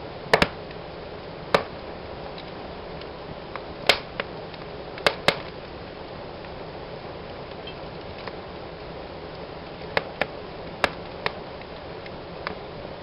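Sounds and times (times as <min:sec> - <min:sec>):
fire crackling pops: 0:00.0 - 0:13.0
soft hiss of flames: 0:00.0 - 0:13.0.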